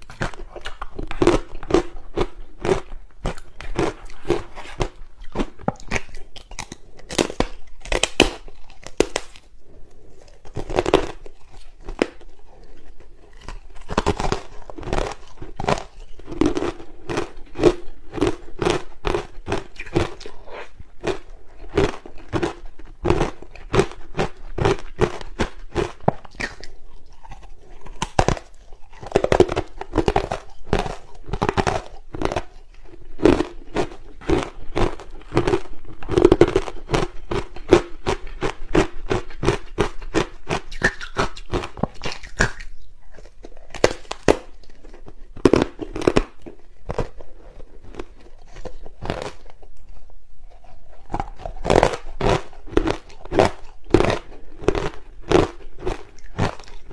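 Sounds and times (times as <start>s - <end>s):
ice being chewed crunching: 0.0s - 56.9s.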